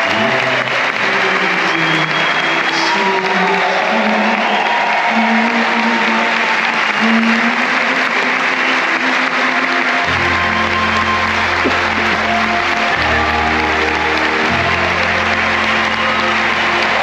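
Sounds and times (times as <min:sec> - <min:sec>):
audience applauding: 0:00.0 - 0:17.0
music playing: 0:00.0 - 0:17.0.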